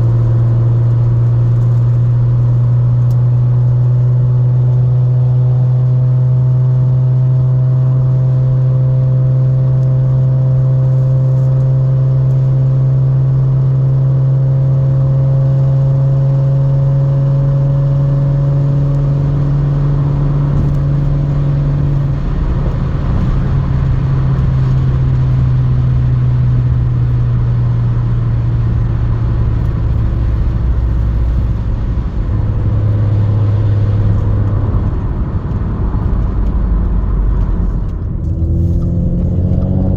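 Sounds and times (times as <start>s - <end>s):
car exhaust droning loudly: 0.0s - 39.9s.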